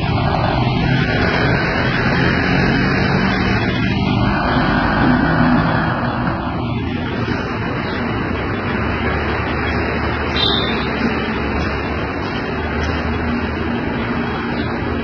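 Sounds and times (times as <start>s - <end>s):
loud street noise: 0.0s - 15.0s
low hum of traffic: 0.0s - 15.0s.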